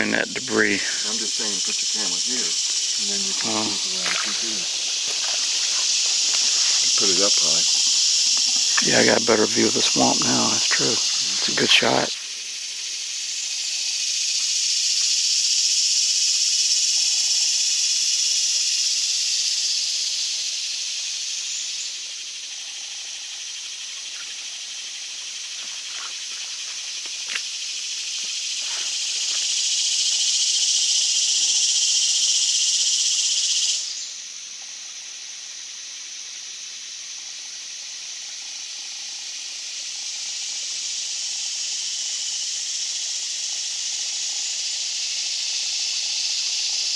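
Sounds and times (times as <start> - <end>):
swamp insects droning: 0.0 - 46.9.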